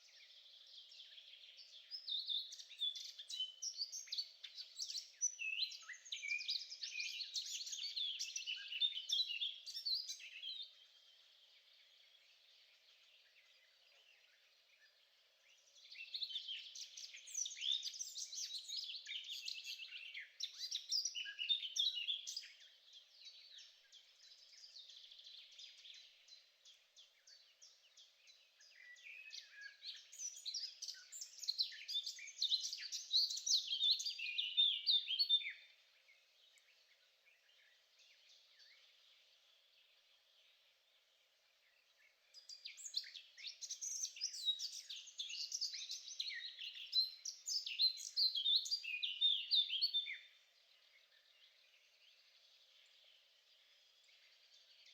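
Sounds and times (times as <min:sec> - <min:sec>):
songbird twittering and trilling: 0:00.0 - 0:54.9.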